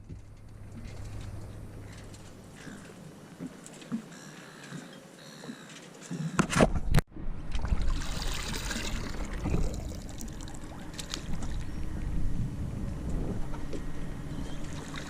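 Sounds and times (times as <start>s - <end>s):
water splashing against hull: 0.0s - 4.9s, 6.8s - 15.0s
boat motor hum: 0.0s - 6.4s, 7.2s - 15.0s.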